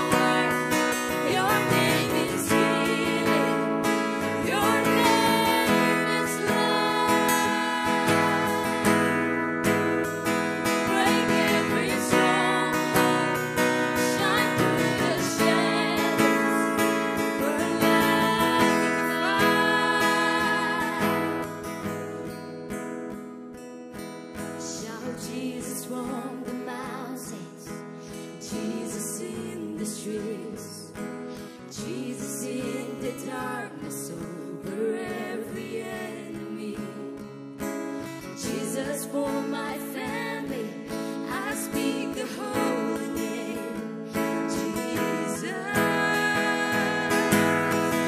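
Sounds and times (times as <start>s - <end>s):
women singing worship song: 0.0s - 21.9s, 24.6s - 37.4s, 38.0s - 48.0s
acoustic guitar strumming: 0.0s - 48.0s.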